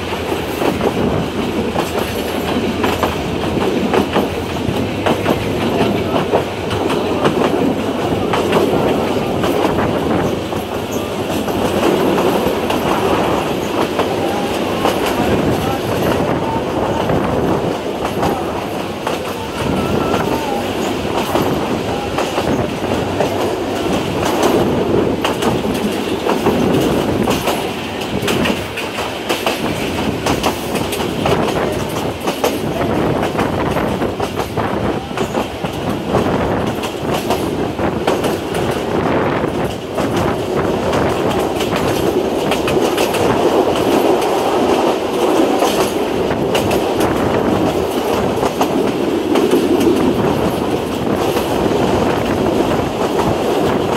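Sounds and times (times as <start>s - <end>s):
train running noise: 0.0s - 53.9s
train wheels clickety-clack: 0.0s - 53.9s.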